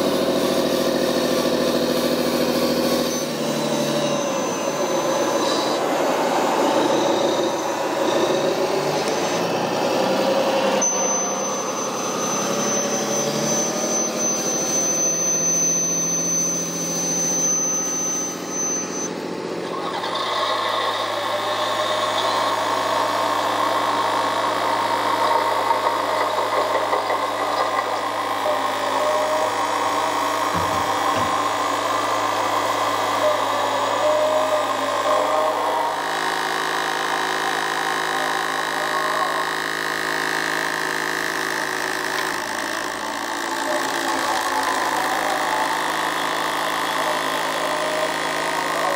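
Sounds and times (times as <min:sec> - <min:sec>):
motor running: 0:00.0 - 0:48.9.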